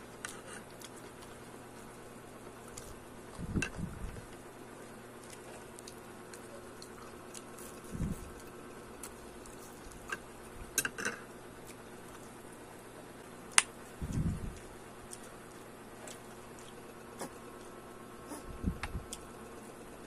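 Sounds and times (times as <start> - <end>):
steady low hum: 0.0 - 20.0
person chewing crunchy food: 0.2 - 10.9, 13.6 - 19.8.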